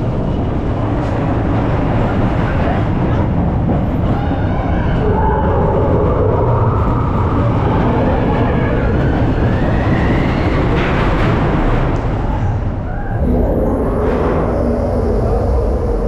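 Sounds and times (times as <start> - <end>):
roller coaster rumbling on rails: 0.0 - 16.0.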